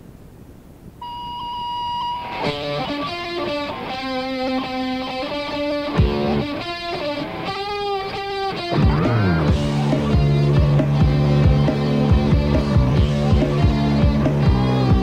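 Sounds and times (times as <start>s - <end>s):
tape hiss: 0.0s - 15.0s
electric guitar chords: 1.0s - 15.0s.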